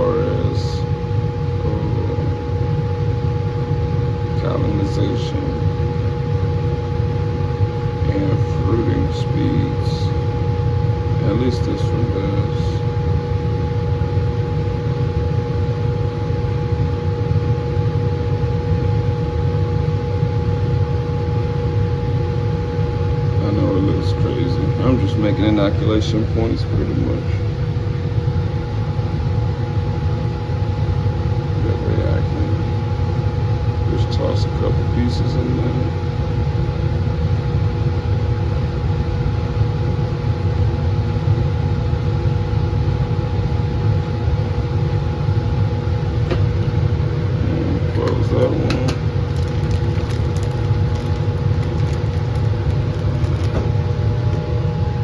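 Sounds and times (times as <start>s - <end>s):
blower fan roar and hum: 0.0s - 55.0s.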